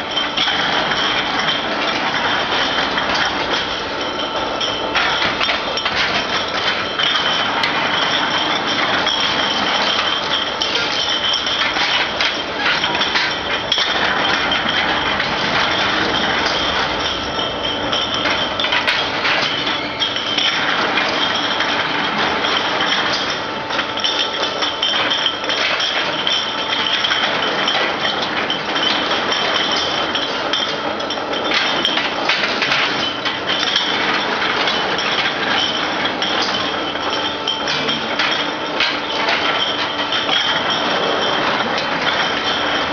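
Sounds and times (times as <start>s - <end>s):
glass bottles clinking: 0.0s - 42.9s.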